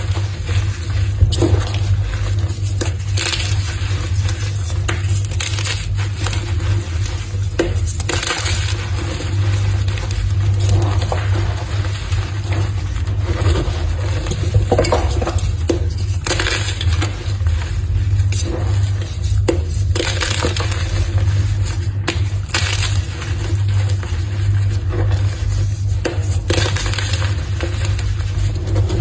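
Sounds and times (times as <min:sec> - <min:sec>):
chalk crunching and crackling: 0:00.0 - 0:29.0
steady low hum: 0:00.0 - 0:29.0.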